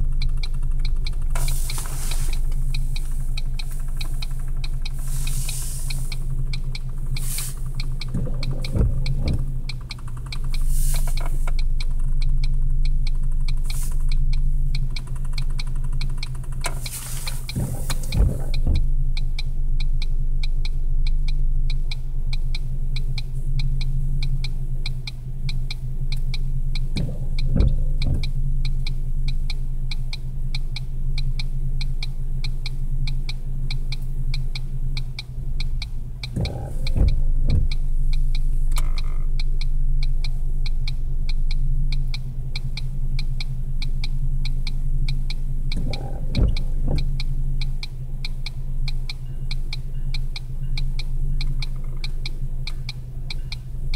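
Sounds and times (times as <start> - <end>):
car engine idling: 0.0 - 53.9
fast even ticking: 0.0 - 53.9
windshield wipers thumping: 0.0 - 53.9.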